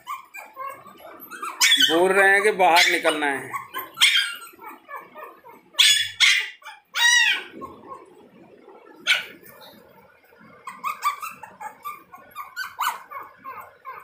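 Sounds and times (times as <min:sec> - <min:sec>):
puppies yipping and barking: 0:00.0 - 0:08.2, 0:09.0 - 0:14.0.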